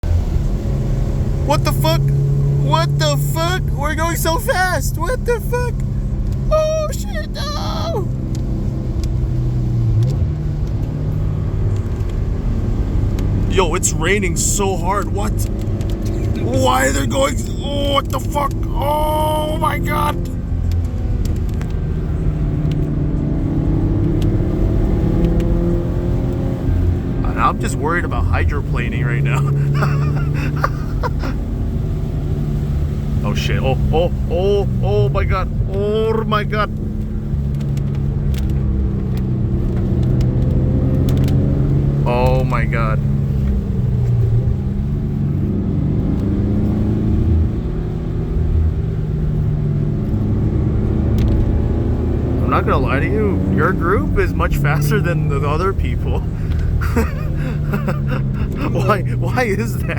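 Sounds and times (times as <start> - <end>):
car engine running: 0.0 - 59.9
tyres on wet road: 0.0 - 59.9.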